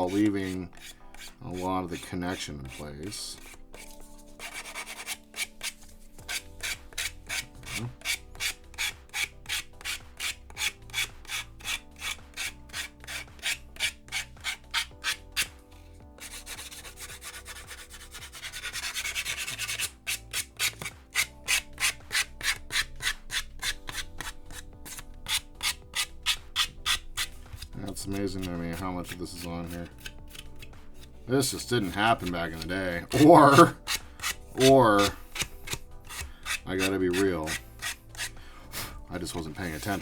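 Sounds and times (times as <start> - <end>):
sanding block rubbing plastic: 0.0 - 38.4, 39.2 - 40.0.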